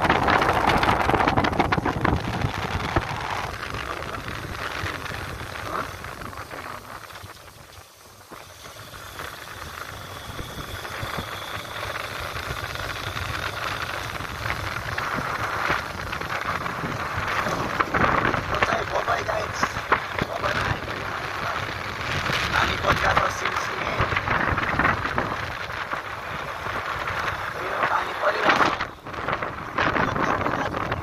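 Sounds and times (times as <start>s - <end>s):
motorcycle engine: 0.0s - 31.0s
tyres on wet road: 0.0s - 31.0s
wind rushing over microphone: 0.0s - 31.0s.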